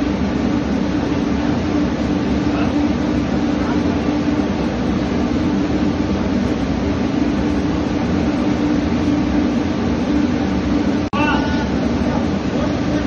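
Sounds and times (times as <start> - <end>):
low machinery hum with rumble: 0.0 - 13.0.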